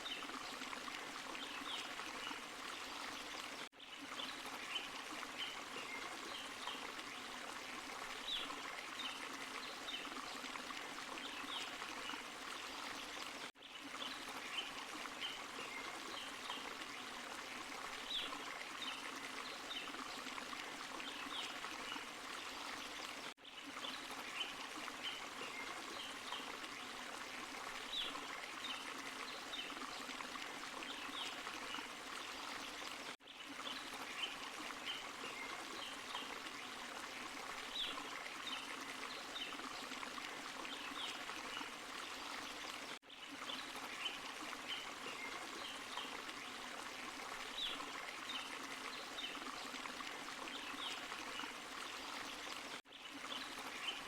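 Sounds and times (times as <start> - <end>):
waterfall and stream running: 0.0 - 54.0.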